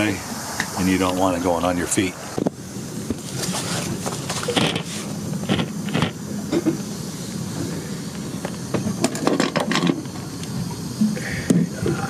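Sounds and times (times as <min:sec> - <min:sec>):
hissing bursts through hose: 0:00.0 - 0:12.0
suction pump humming: 0:00.0 - 0:12.0.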